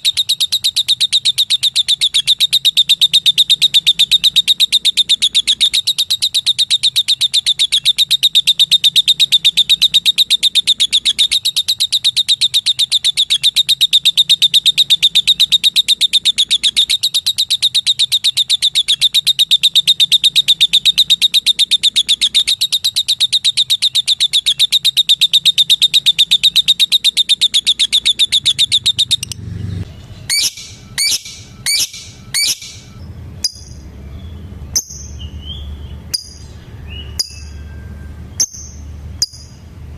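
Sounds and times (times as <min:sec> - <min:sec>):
lovebird chirping: 0:00.0 - 0:39.9.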